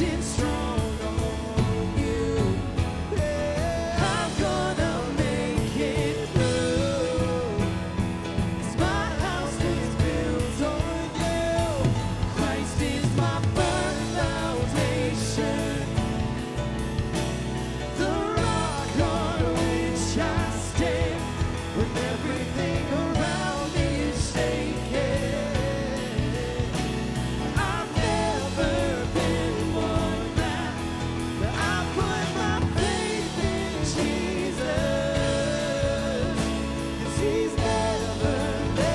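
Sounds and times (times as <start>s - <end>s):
person singing: 0.0s - 17.1s, 17.8s - 38.9s
drum kit beat: 0.0s - 38.9s
guitar: 0.0s - 38.9s.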